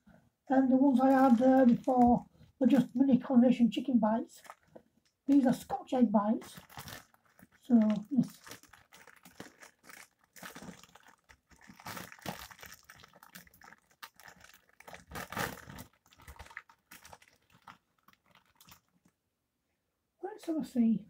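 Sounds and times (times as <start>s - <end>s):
plastic packaging crinkling: 0.9s - 3.1s, 4.3s - 19.1s.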